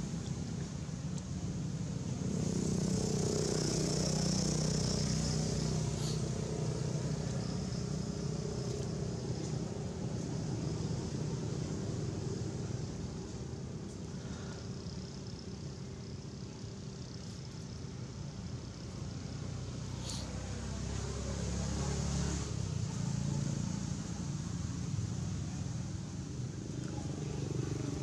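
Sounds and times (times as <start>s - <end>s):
vehicle engine hum: 0.0s - 28.0s.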